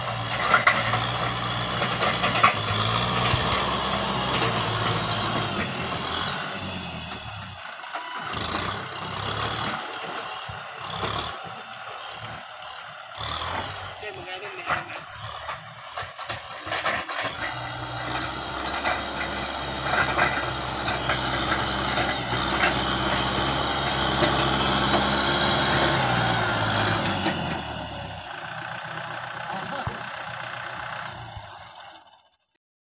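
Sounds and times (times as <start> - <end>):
tractor diesel engine running: 0.0 - 32.5.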